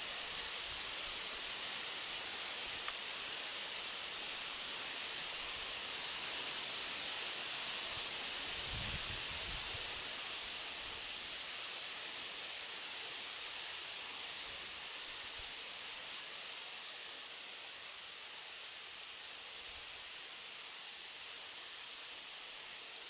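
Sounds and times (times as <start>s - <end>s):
outdoor hiss: 0.0s - 23.0s.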